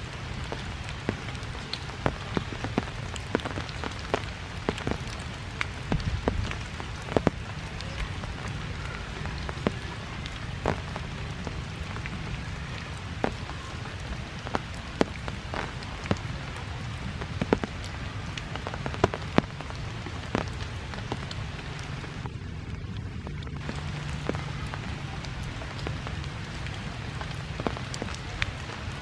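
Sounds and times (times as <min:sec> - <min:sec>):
sharp drip clicks: 0:00.0 - 0:28.7
rain falling on foliage: 0:00.0 - 0:29.0.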